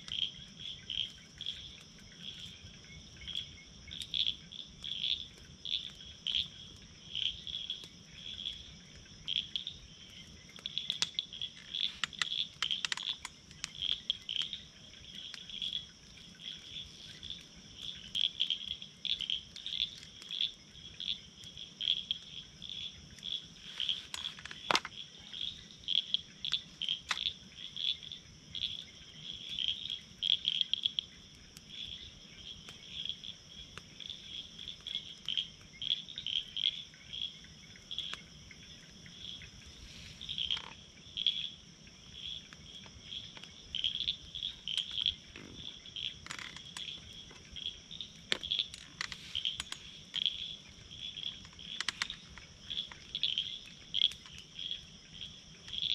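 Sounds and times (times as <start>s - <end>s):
campfire crackling and popping: 0.0s - 55.9s
frogs and insects chirping: 0.0s - 55.9s.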